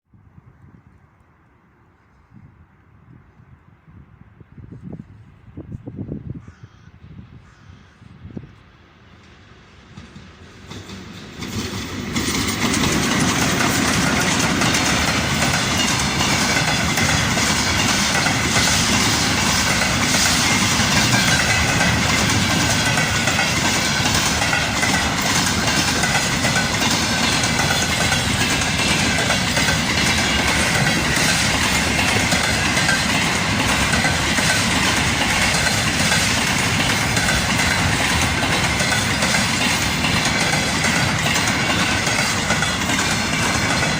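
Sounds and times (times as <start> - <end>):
train rumbling past: 7.0 - 43.9.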